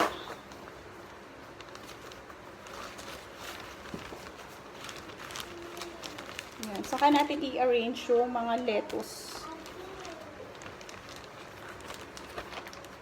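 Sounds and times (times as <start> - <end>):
paper towel rustling in plastic bag: 0.0 - 13.0.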